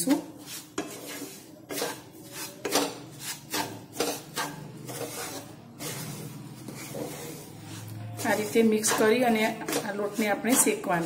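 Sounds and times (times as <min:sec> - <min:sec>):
wooden spatula scraping pan: 0:00.0 - 0:11.0.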